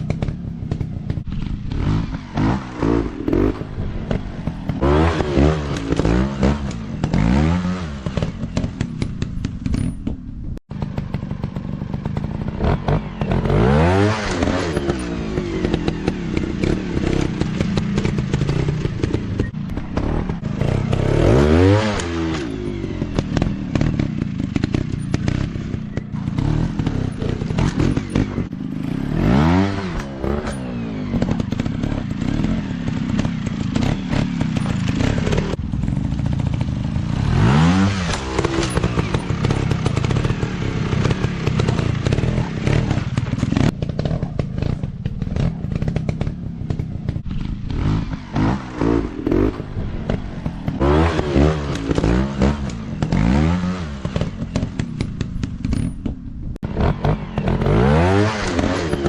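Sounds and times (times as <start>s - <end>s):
motorcycle engines running: 0.0s - 59.0s
sharp engine revs: 1.3s - 8.8s, 10.9s - 35.6s, 36.6s - 46.3s, 47.2s - 55.1s, 56.6s - 59.0s.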